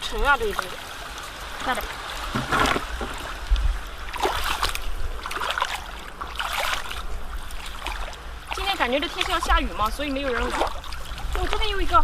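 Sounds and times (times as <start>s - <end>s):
splashing in shallow seawater: 0.0s - 12.0s.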